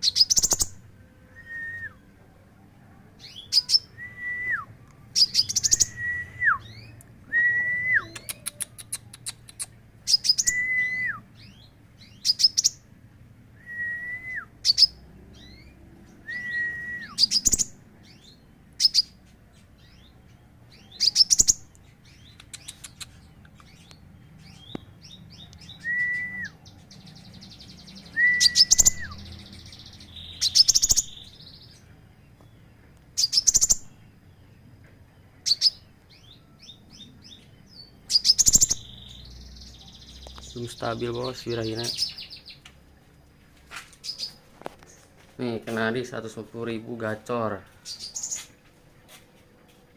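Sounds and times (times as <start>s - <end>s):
songbird chirps: 0.0s - 49.9s.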